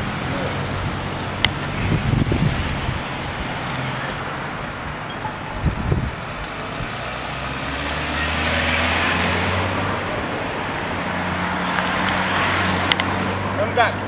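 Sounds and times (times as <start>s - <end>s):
car engine humming: 0.0s - 14.0s
road noise: 0.0s - 14.0s.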